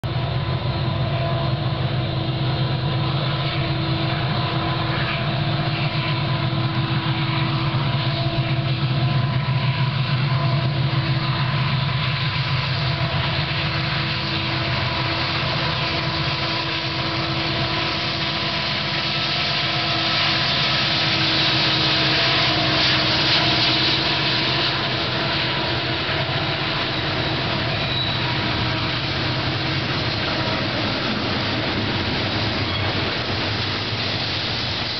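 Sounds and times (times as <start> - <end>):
freight train rumbling: 0.0 - 34.9
wheels squealing: 0.4 - 34.9.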